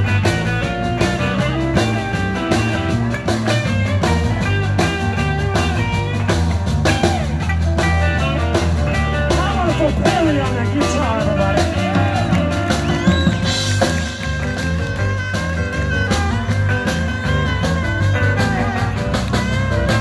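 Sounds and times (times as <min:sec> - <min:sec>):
bass line: 0:00.0 - 0:20.0
drums: 0:00.0 - 0:20.0
electric guitar solo: 0:00.0 - 0:20.0
keyboards: 0:00.0 - 0:20.0.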